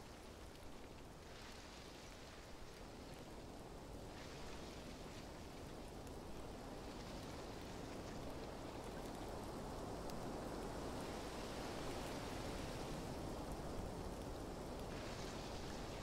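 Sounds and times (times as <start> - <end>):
dense rain-like hiss with crackle: 0.0 - 16.0.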